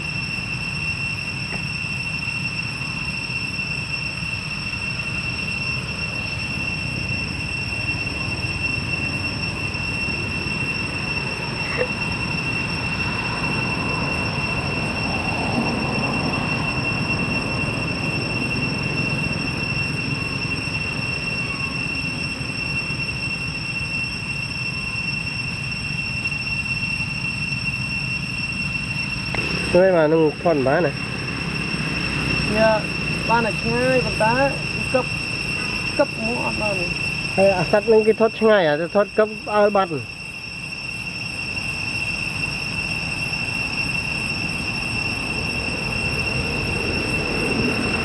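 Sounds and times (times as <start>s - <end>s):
high-pitched insect drone: 0.0s - 48.0s
high-pitched whine: 0.0s - 48.0s.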